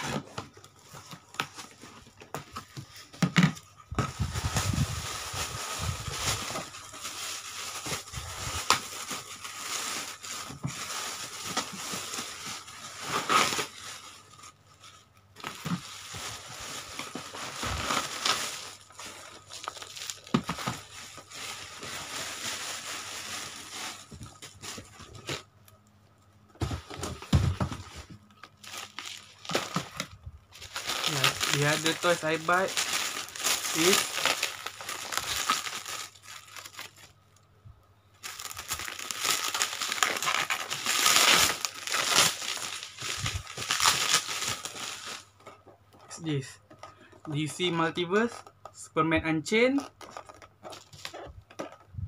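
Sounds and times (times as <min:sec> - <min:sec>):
cardboard and paper rustling: 0:00.0 - 0:25.5, 0:26.6 - 0:37.1, 0:38.2 - 0:48.5, 0:49.8 - 0:52.0.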